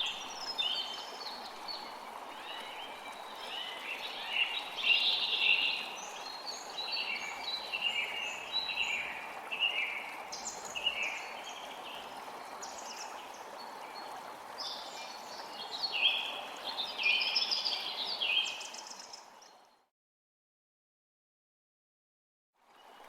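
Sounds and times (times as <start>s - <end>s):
creek water running: 0.0s - 19.8s, 22.6s - 23.0s.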